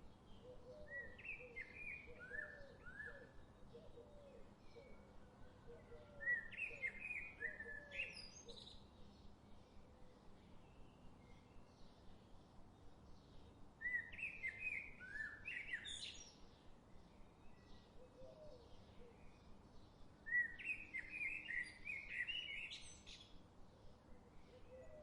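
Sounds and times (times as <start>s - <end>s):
faint background hiss: 0.0s - 25.0s
songbird chirping: 0.0s - 25.0s.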